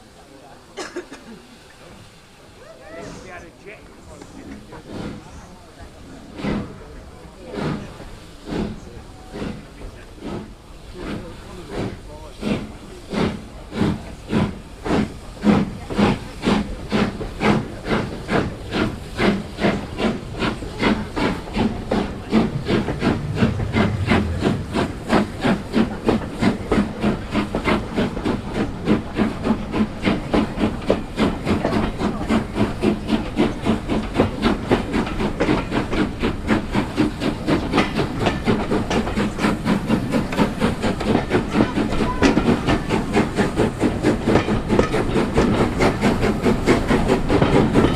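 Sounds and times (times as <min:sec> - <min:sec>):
steam hissing: 0:00.0 - 0:47.9
steam locomotive exhaust beats: 0:00.0 - 0:47.9.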